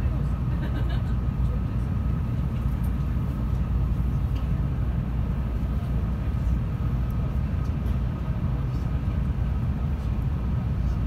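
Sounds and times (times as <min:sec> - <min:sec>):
faint steady whine: 0:00.0 - 0:11.0
train cabin rumble: 0:00.0 - 0:11.0.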